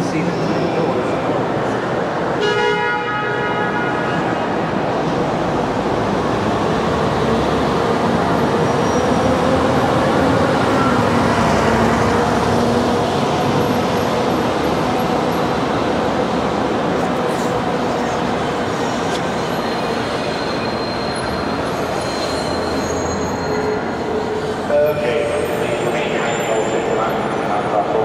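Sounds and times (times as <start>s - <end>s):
tram rolling past: 4.1s - 28.0s.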